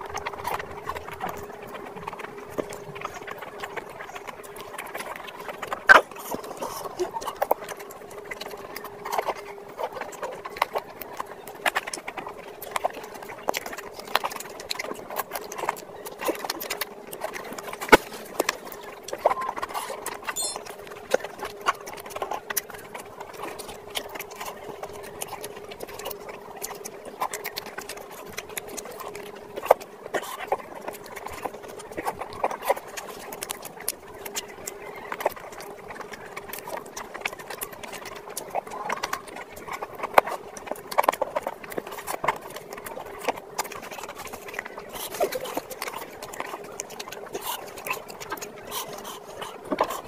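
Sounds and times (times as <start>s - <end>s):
chewing and wet lip-smacking: 0.0s - 50.0s
faint steady hum: 0.0s - 50.0s.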